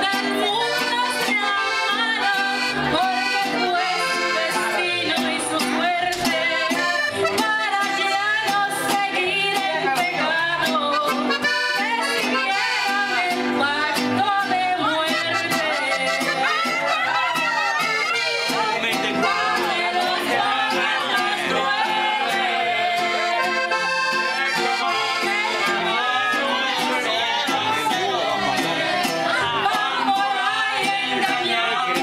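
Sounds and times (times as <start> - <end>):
woman singing into a microphone: 0.0 - 24.5, 25.2 - 32.0
latin band music: 0.0 - 32.0.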